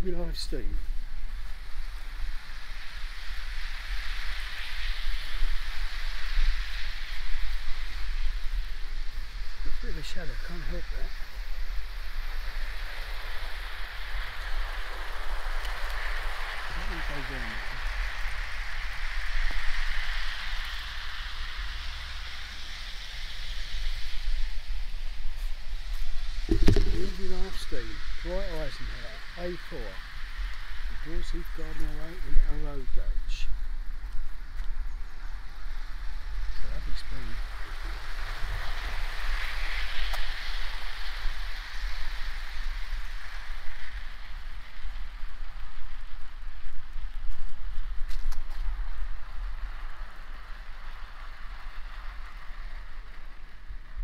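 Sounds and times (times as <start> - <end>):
model steam locomotive hissing: 0.0 - 33.6, 35.5 - 45.9
wind rumble on microphone: 0.0 - 54.0.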